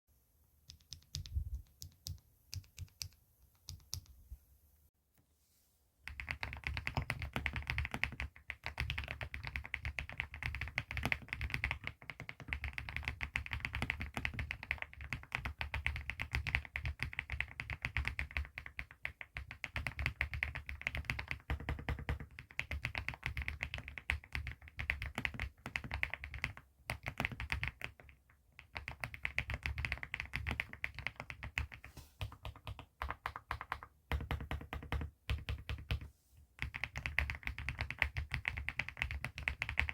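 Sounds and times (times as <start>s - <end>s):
typing on a mechanical keyboard: 0.7s - 4.1s, 6.1s - 39.9s.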